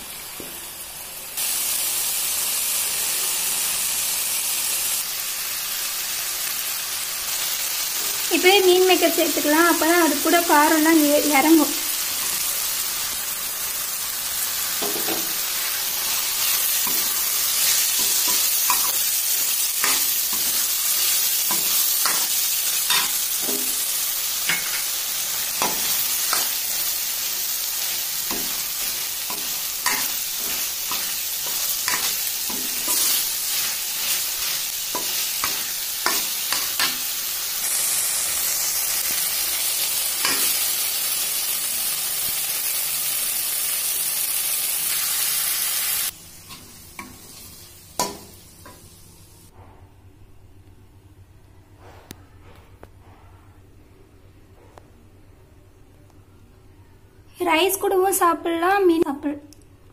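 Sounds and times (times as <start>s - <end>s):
food sizzling in oil: 0.0s - 49.5s.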